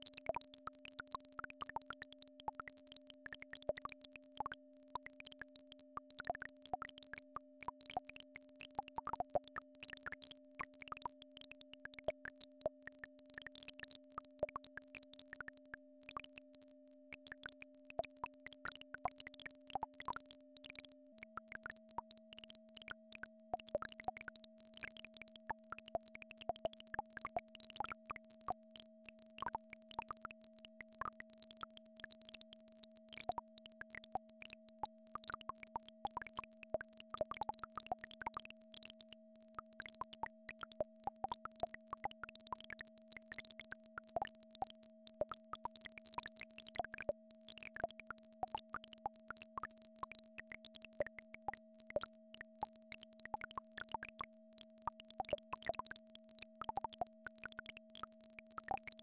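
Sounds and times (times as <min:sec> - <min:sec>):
quick irregular plops and clicks: 0:00.3 - 0:59.0.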